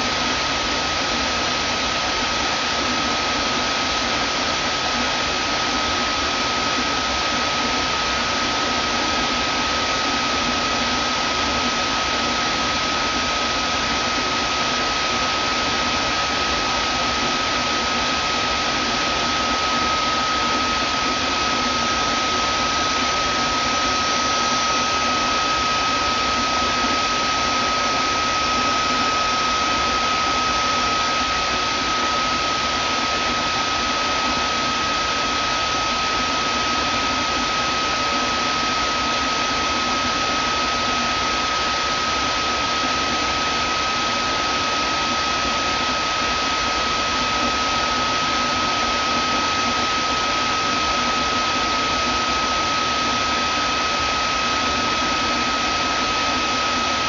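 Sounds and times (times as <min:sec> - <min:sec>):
vacuum cleaner motor whining: 0:00.0 - 0:57.0.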